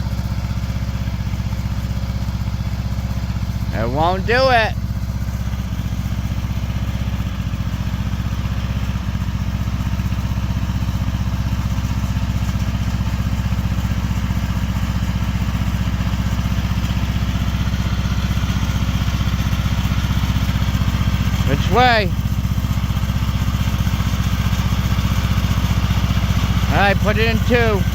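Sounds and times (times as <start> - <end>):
lawn mower engine running: 0.0 - 27.9.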